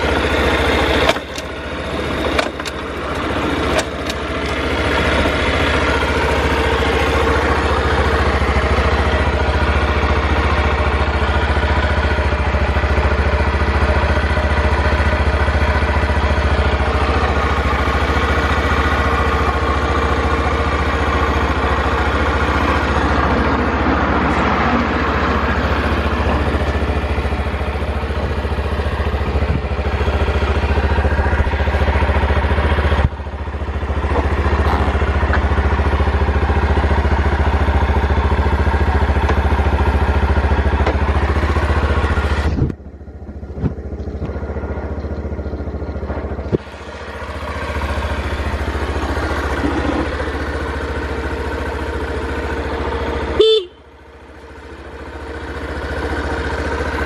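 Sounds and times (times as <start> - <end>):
small motorcycle engine idling: 0.0 - 57.0.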